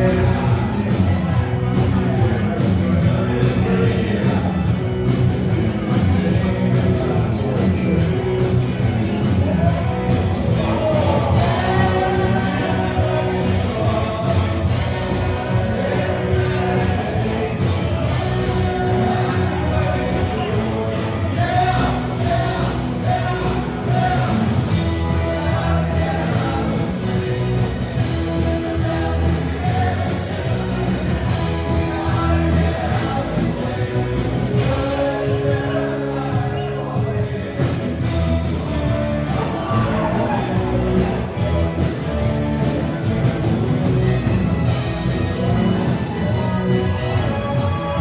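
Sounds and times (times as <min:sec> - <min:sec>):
live rock band playing: 0:00.0 - 0:48.0
person singing: 0:00.0 - 0:48.0.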